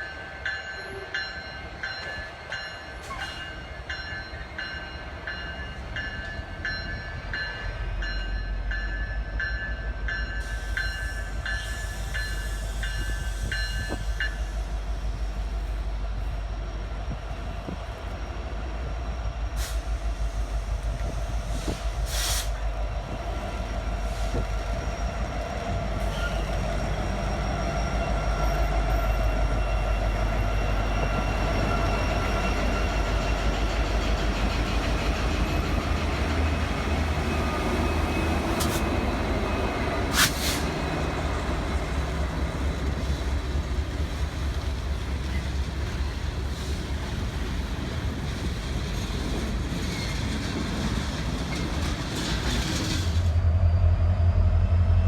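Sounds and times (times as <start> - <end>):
train rolling by: 0.0 - 55.0.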